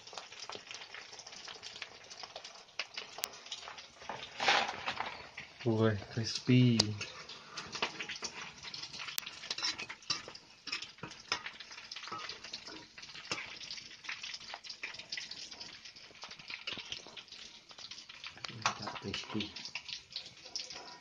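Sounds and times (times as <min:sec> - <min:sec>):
oil sizzling and crackling: 0:00.0 - 0:21.0.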